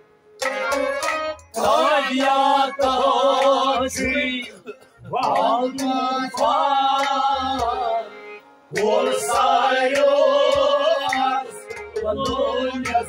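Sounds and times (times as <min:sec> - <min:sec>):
harmonium drone: 0:00.0 - 0:13.0
men singing folk song: 0:01.6 - 0:13.0.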